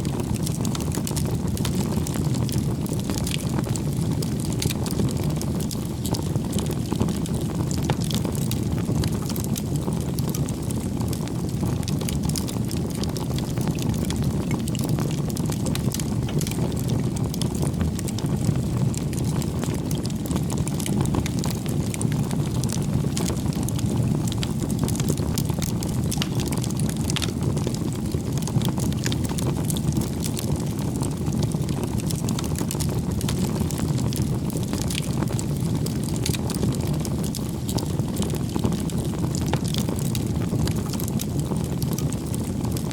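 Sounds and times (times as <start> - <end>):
low rumble of flames: 0.0 - 42.9
wood crackling and popping: 0.0 - 42.9.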